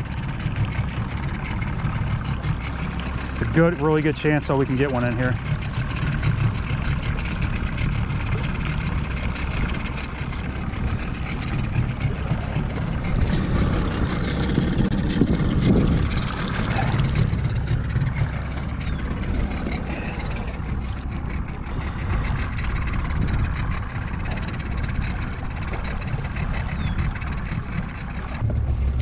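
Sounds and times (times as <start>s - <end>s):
boat motor running: 0.0s - 29.0s.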